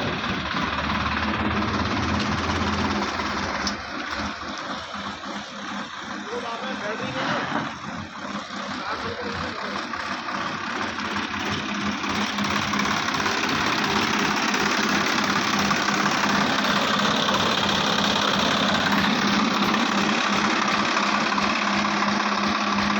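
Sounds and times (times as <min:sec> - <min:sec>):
tractor diesel engine clattering: 0:00.0 - 0:22.9.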